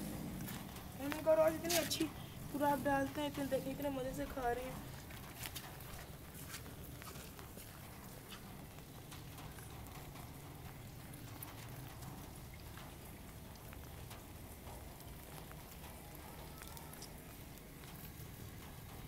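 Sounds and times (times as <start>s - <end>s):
low background rumble: 0.0s - 16.6s.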